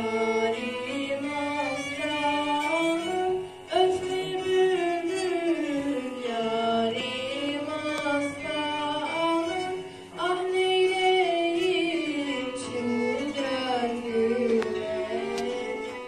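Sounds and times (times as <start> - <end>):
violin accompaniment: 0.0 - 16.0
girl singing into microphone: 0.2 - 15.7.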